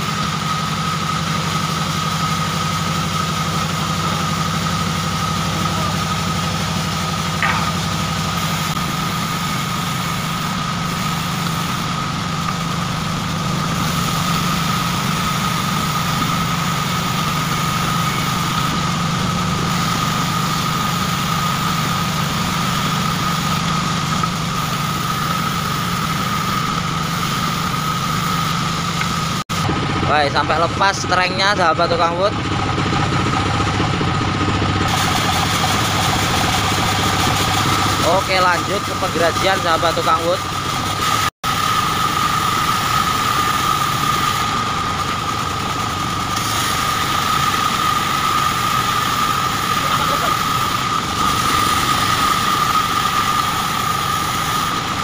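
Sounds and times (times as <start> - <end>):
band saw cutting wood: 0.0 - 55.0
high blade whine: 0.0 - 55.0
low machine hum: 0.0 - 55.0.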